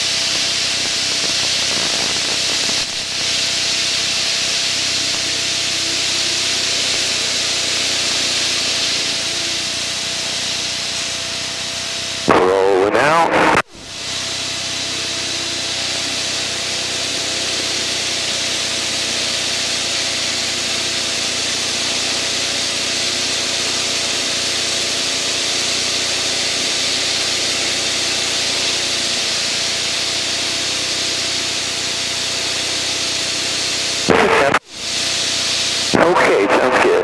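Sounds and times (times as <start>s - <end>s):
high hiss of airflow: 0.0s - 12.1s, 13.0s - 36.6s
aircraft engine droning: 0.0s - 37.0s.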